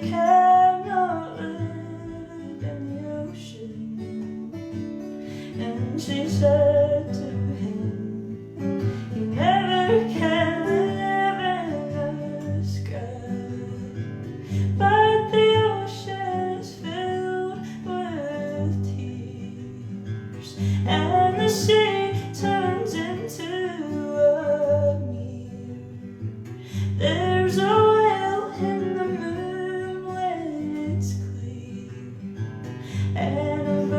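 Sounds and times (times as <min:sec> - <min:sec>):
acoustic guitar strumming: 0:00.0 - 0:33.9
woman singing folk song: 0:00.0 - 0:33.9.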